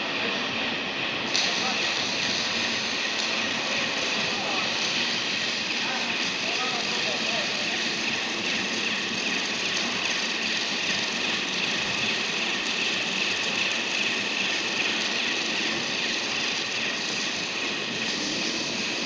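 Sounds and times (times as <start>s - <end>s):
workshop machinery hiss and hum: 0.0s - 19.0s.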